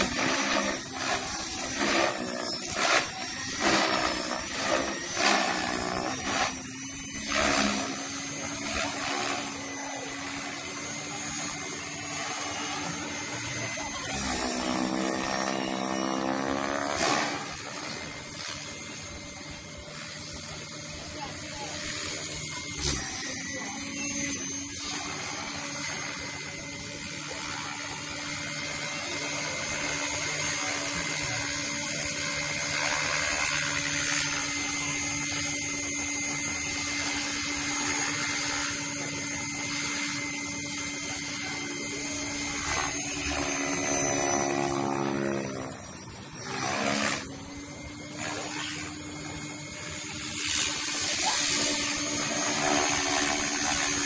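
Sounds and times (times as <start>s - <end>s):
rc helicopter motor whine: 0.0s - 54.0s.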